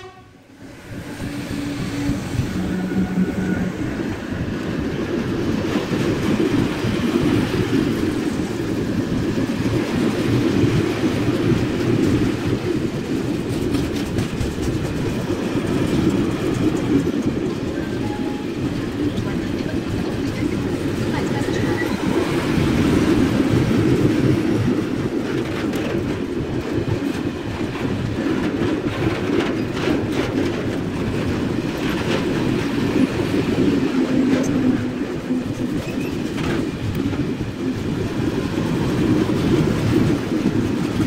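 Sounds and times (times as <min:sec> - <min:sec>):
freight train passing: 0:00.0 - 0:41.0
wagon wheels rattling on rails: 0:05.7 - 0:41.0.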